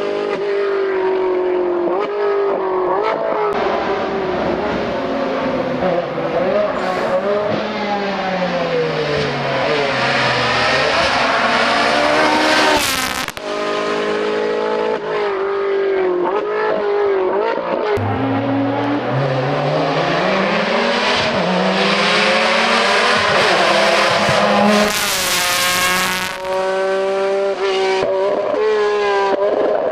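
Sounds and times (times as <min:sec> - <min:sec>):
race car engine revving: 0:00.0 - 0:29.9.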